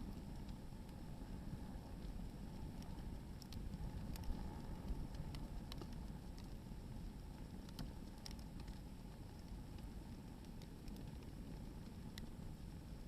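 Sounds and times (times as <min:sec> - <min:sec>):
firewood crackling and popping: 0:00.0 - 0:13.0
low steady rumble: 0:00.0 - 0:13.0.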